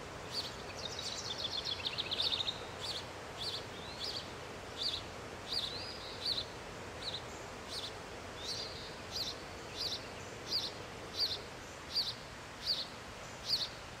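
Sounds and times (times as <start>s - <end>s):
steady outdoor hiss: 0.0s - 14.0s
sparrow chirping: 0.3s - 13.7s.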